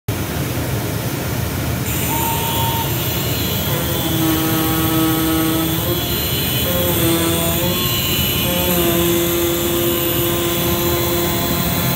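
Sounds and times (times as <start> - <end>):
cutting machine whirring: 1.9 - 11.9
pitched motor whine: 1.9 - 11.9.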